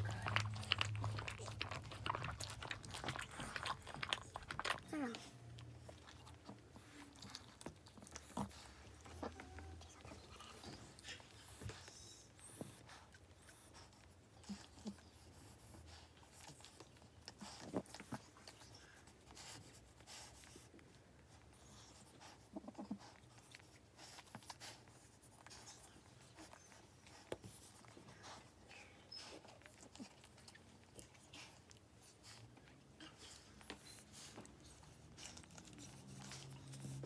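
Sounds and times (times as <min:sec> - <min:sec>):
dog licking puppy: 0:00.0 - 0:37.0.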